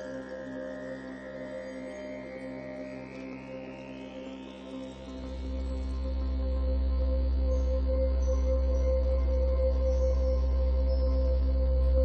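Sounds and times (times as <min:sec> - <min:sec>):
calm ambient drone music: 0:00.0 - 0:12.0.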